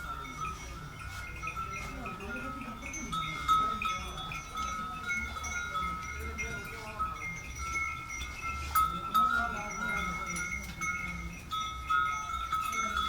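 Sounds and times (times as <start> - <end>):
animal bells ringing: 0.0 - 13.0.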